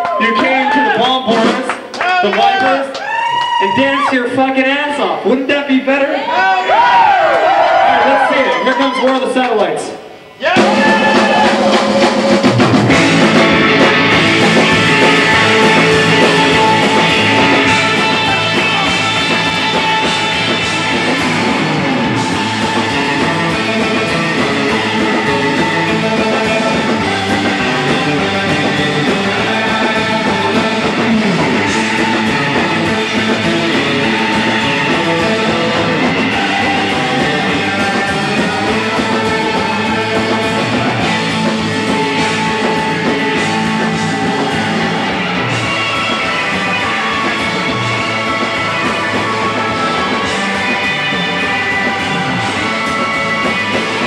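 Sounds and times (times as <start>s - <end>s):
surf rock band playing: 0.0s - 3.2s, 9.8s - 54.0s.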